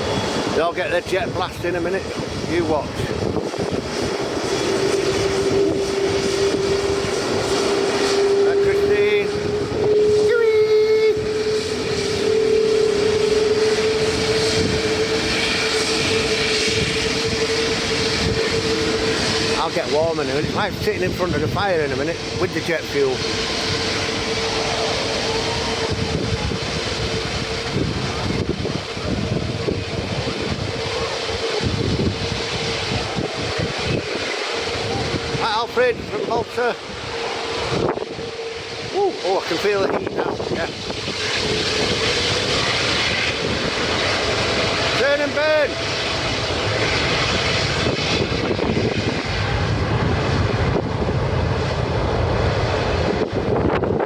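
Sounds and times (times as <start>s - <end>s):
jet engine whine: 0.0s - 54.0s
wind buffeting microphone: 0.0s - 54.0s.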